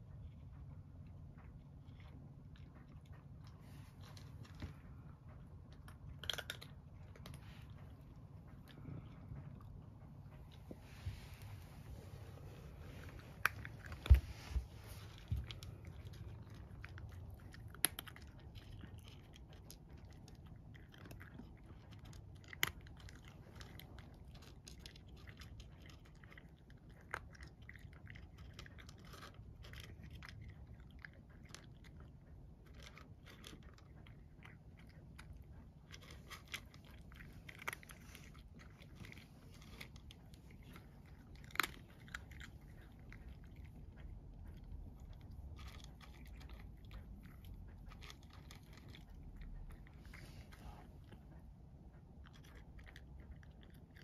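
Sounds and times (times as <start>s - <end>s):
cat crunching dry kibble: 0.1s - 54.0s.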